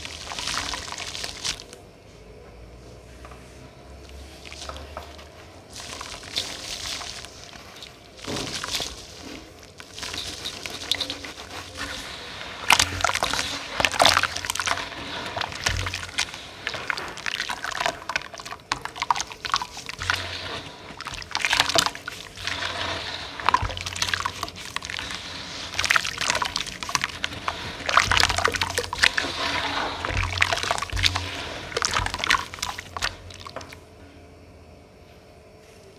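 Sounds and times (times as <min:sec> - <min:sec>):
hands sloshing gritty paste in water: 0:00.0 - 0:01.8, 0:04.1 - 0:33.8.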